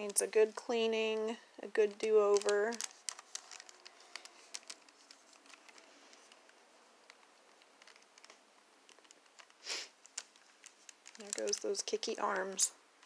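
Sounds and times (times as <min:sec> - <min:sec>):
doll limbs clicking and tapping: 0:00.0 - 0:13.0.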